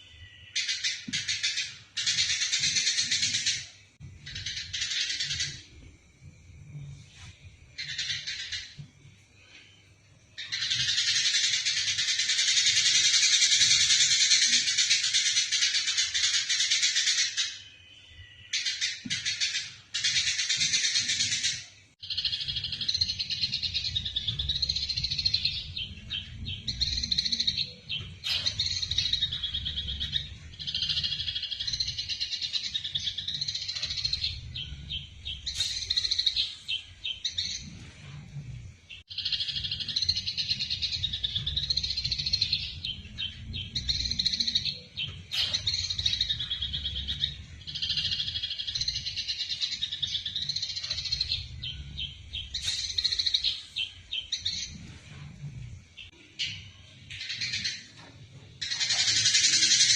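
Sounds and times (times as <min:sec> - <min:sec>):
sparrows chirping excitedly: 0:00.0 - 0:05.8, 0:06.8 - 0:08.8, 0:10.4 - 0:59.9.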